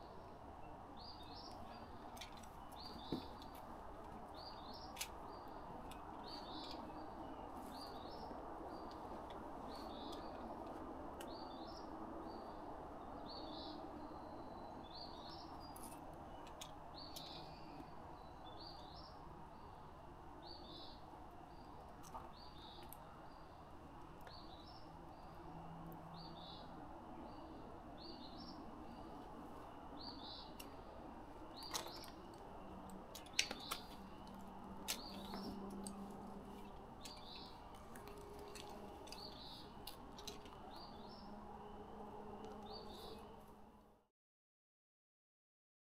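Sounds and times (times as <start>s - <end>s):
faint outdoor noise: 0.0s - 44.1s.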